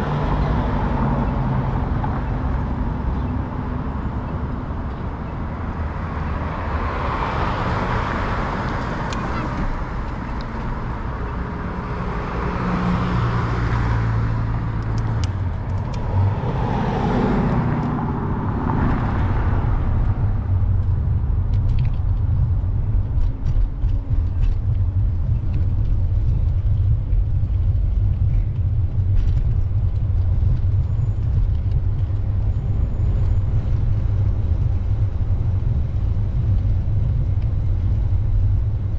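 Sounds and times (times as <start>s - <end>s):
cars passing: 0.0s - 38.9s
low traffic rumble: 0.0s - 38.9s.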